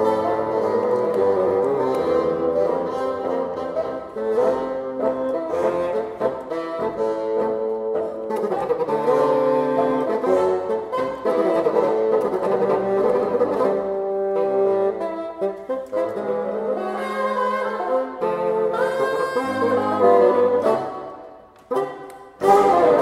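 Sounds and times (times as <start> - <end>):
bassoon ensemble playing swing jazz: 0.0 - 23.0.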